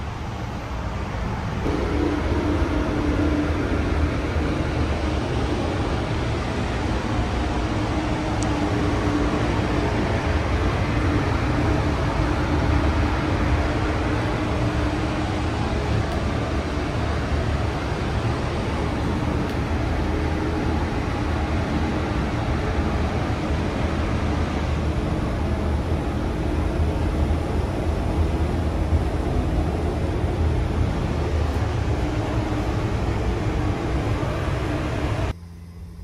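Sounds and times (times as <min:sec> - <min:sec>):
hum: 0:00.0 - 0:36.0
ventilation air rush: 0:00.0 - 0:36.0.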